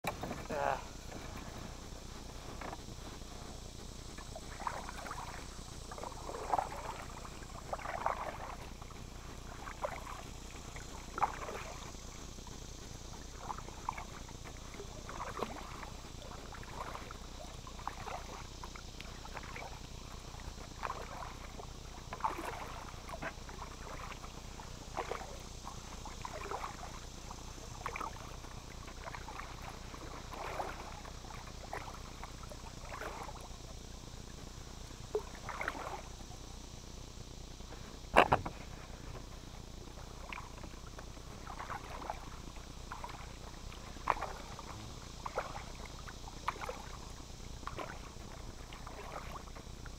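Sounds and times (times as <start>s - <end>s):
kayak paddle splashing in water: 0.0s - 49.9s.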